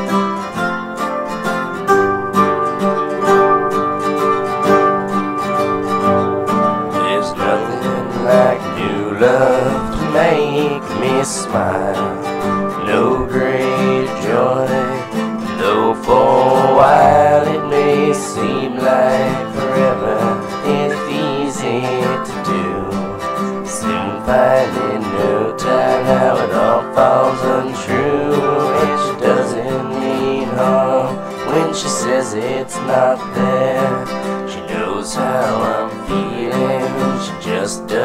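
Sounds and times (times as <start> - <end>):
acoustic guitar chords: 0.0 - 38.0
bending lead guitar melody: 0.0 - 38.0.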